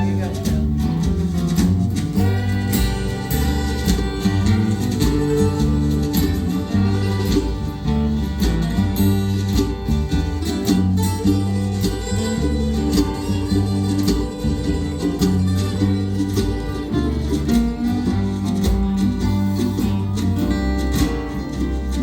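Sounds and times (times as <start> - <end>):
bass line: 0.0 - 22.0
plucked acoustic guitar: 0.0 - 22.0.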